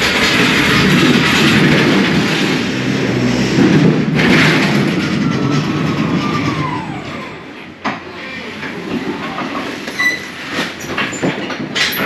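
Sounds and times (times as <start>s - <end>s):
wheels rumbling on trailer floor: 0.0s - 12.0s.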